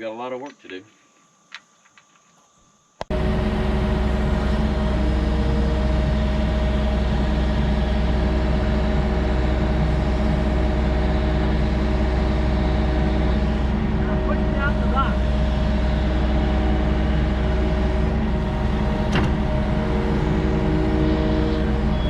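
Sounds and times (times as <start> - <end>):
diesel engine running: 3.1 - 22.0.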